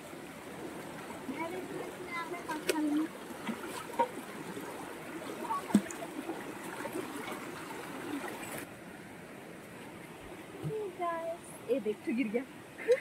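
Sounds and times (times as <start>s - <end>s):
stream running over rocks: 0.0s - 12.8s.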